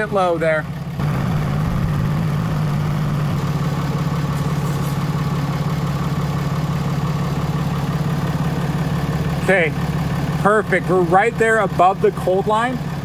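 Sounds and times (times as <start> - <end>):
diesel pickup engine idling: 0.0 - 13.0.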